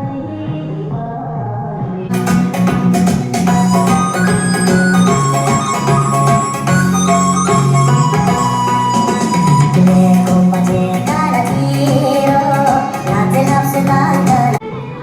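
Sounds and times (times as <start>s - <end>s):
loud music with singing: 2.1s - 14.6s.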